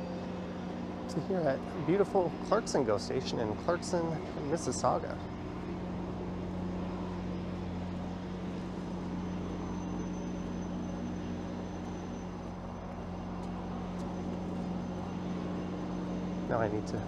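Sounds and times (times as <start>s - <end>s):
faint high whine: 0.0s - 17.0s
train idling hum: 0.0s - 17.0s.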